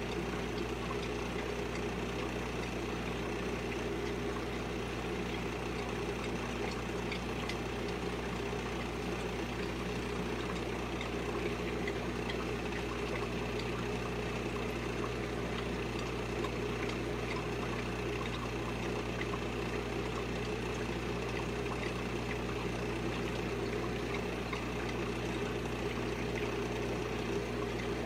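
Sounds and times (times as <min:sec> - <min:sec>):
aquarium pump motor humming: 0:00.0 - 0:28.0
faint small ticks: 0:00.0 - 0:28.0
moving water: 0:00.0 - 0:28.0.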